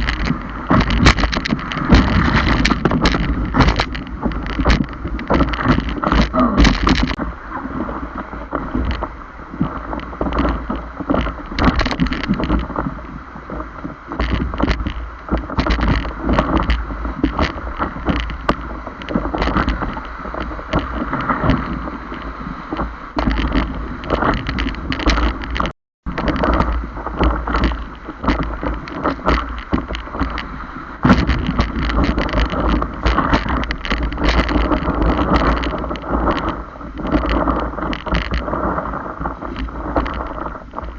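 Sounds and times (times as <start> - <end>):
water splashing around paddleboard: 0.0 - 40.9
wind buffeting microphone: 0.0 - 40.9.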